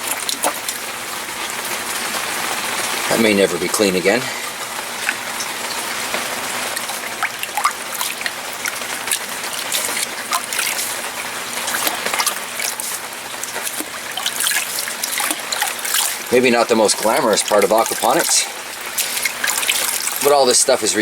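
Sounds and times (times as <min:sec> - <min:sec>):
water drips: 0:00.0 - 0:21.0
water trickling and splashing: 0:00.0 - 0:21.0.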